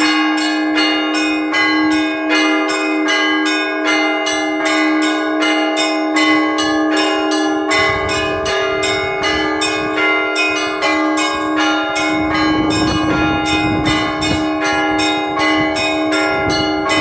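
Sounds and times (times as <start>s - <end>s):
large bell humming: 0.0s - 17.0s
small church bells struck: 0.0s - 17.0s.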